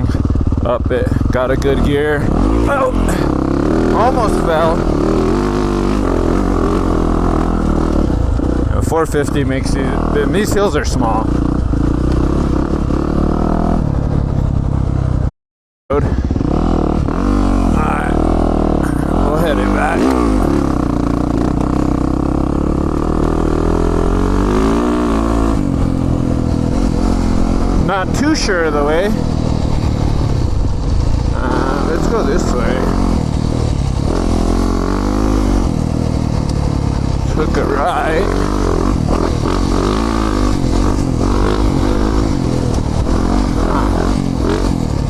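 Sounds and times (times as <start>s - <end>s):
dirt bike engine running: 0.0s - 15.3s, 16.0s - 45.0s.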